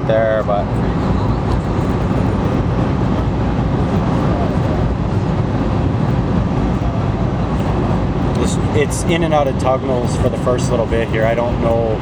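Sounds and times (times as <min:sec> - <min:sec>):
train rumble and roar in tunnel: 0:00.0 - 0:12.0.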